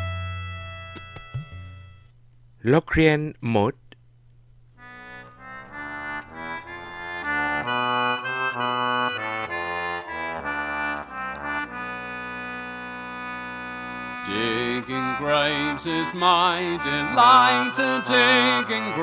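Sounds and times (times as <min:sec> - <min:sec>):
accordion melodic phrase: 0:00.0 - 0:02.1, 0:04.8 - 0:19.0.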